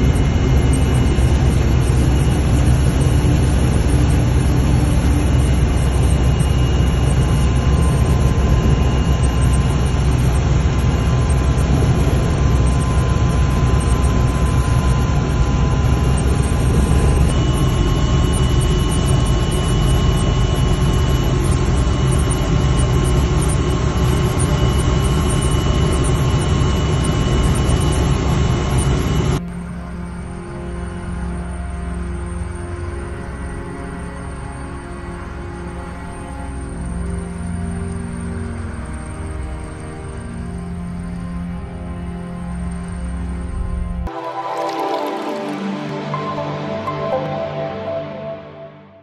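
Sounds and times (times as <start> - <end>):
helicopter turbine and rotor drone: 0.0 - 44.1.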